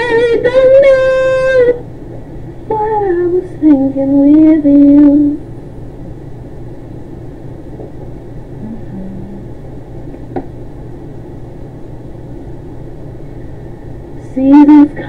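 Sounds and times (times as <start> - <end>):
room noise hum and rumble: 0.0 - 15.0.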